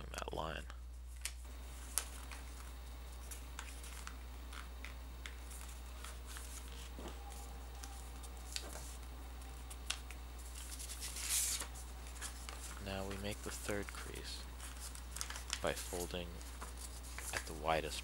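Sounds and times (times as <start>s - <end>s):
paper being folded and creased: 1.1s - 18.0s.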